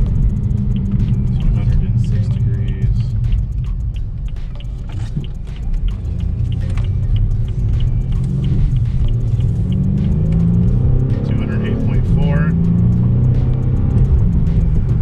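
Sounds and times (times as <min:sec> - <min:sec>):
car engine and road rumble: 0:00.0 - 0:15.0
faint regular ticking: 0:00.0 - 0:15.0.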